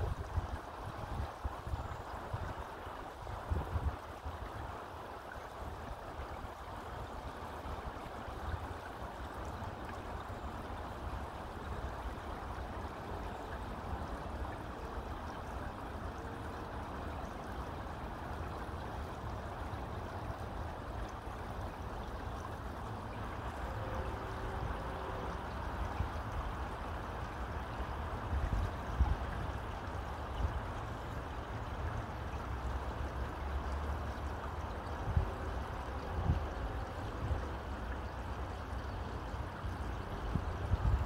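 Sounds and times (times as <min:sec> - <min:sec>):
river flowing over rocks: 0:00.0 - 0:41.0.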